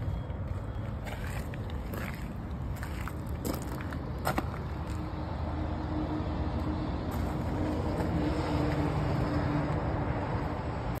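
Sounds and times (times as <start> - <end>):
engine hum: 0.0 - 11.0.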